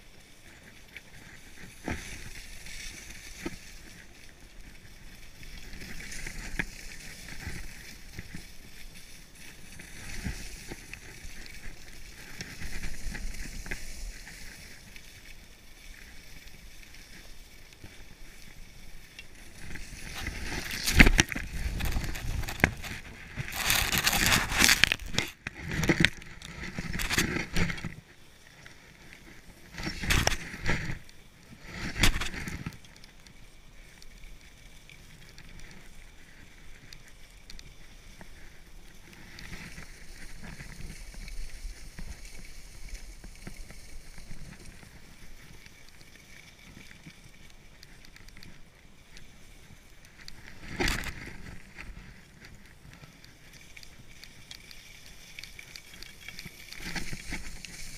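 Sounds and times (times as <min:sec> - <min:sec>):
skis scraping on snow: 0:00.0 - 0:57.9.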